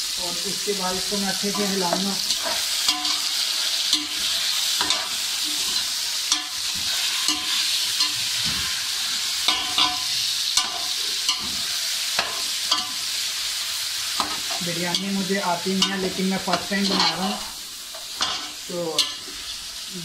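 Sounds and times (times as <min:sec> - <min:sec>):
chicken sizzling in a pot: 0:00.0 - 0:20.0.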